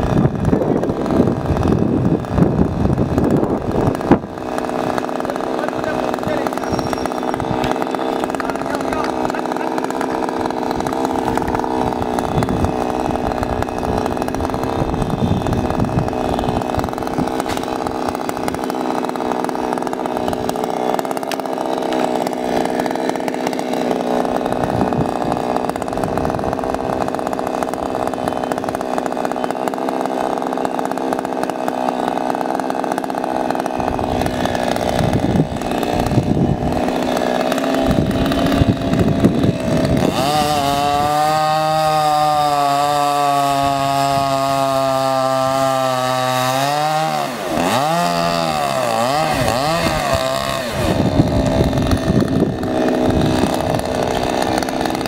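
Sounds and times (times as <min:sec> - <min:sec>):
chainsaw idling: 0:00.0 - 0:55.0.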